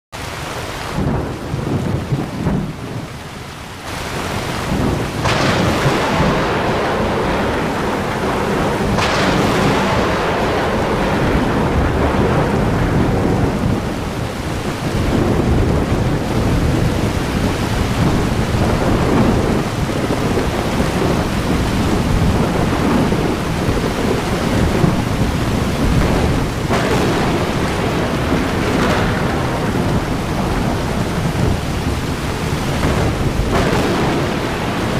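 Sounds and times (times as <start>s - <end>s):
heavy rain: 0.1s - 34.9s
rolling thunder: 0.8s - 34.9s.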